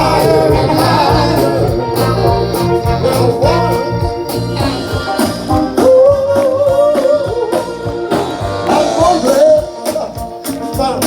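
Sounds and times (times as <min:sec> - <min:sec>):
soul band playing: 0:00.0 - 0:11.0.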